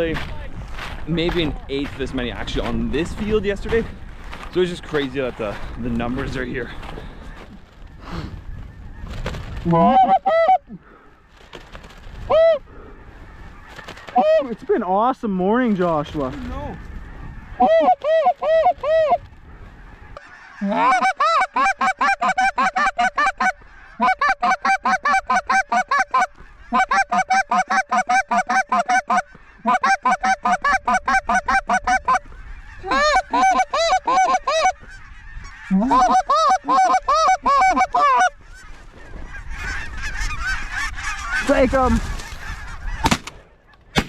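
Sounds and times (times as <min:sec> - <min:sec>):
goose honking: 0:01.5 - 0:11.3, 0:12.3 - 0:15.4, 0:16.1 - 0:43.8.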